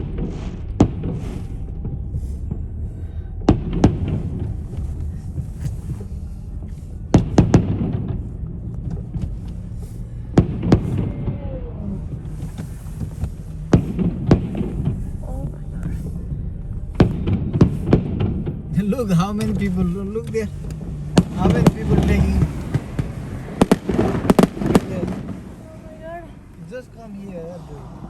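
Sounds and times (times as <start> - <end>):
fireworks bangs: 0.0 - 27.3
car cabin rumble: 0.0 - 28.0.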